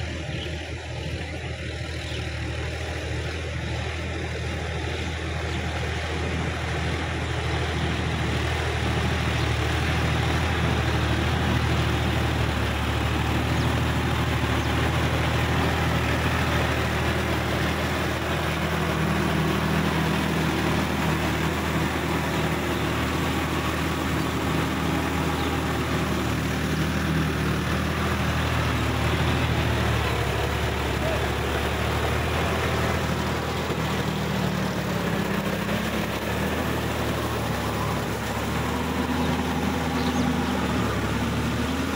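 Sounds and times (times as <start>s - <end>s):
rotavator churning mud: 0.0s - 41.9s
tractor diesel engine running: 0.0s - 41.9s.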